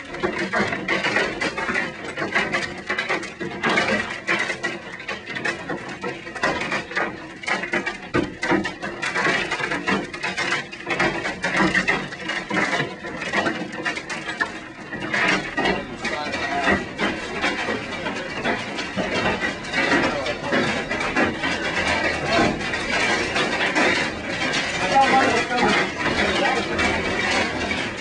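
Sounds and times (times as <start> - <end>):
hailstones pounding a building: 0.0 - 28.0.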